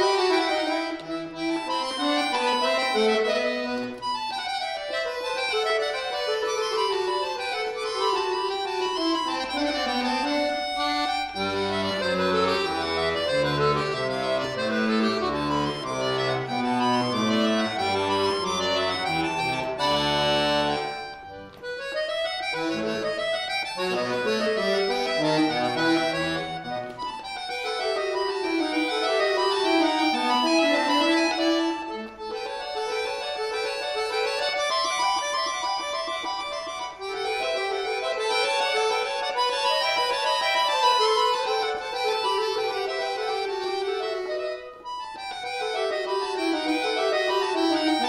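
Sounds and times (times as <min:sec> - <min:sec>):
accordion playing fast runs: 0:00.0 - 0:48.0.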